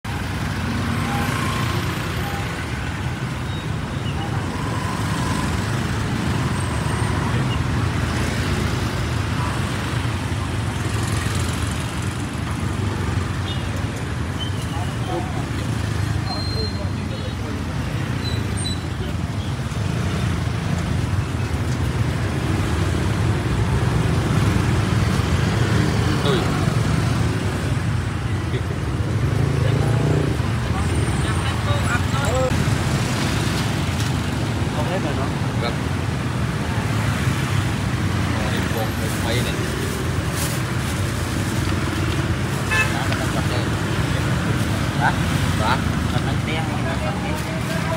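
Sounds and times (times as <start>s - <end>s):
street traffic rumble: 0.0s - 47.9s
motorbike engines running: 0.1s - 47.9s.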